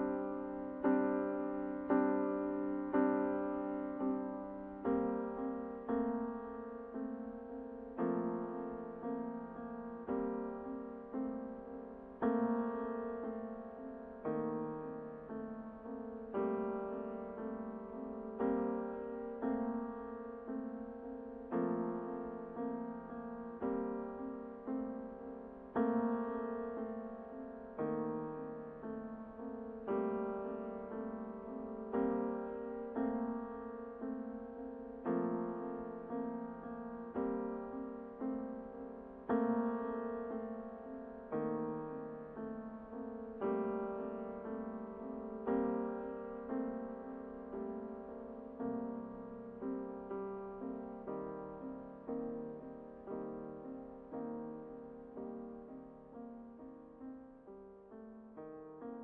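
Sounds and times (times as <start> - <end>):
gentle piano chords: 0.0 - 59.0.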